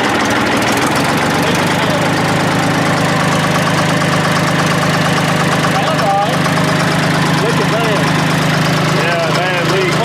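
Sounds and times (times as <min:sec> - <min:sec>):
diesel dozer engine rumbling: 0:00.0 - 0:10.0.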